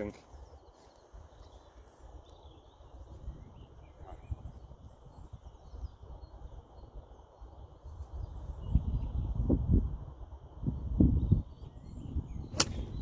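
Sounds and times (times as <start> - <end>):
faint birdsong: 0.0 - 13.0
wind rumbling on microphone: 0.0 - 13.0.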